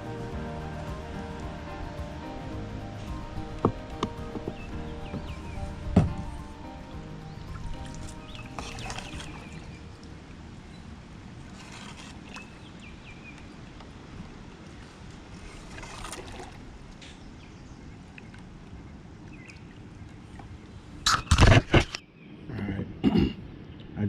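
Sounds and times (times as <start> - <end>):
faint water sounds: 0.0 - 21.6.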